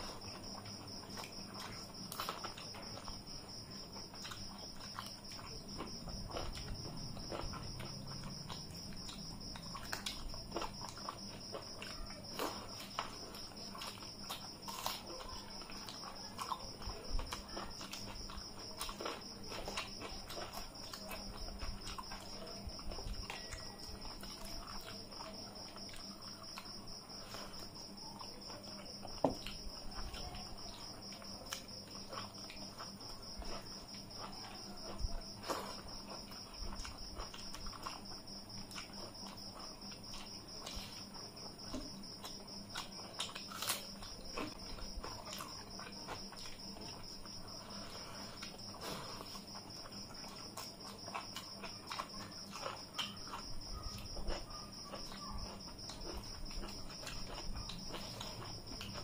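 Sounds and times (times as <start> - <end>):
chewing: 0.0 - 59.0.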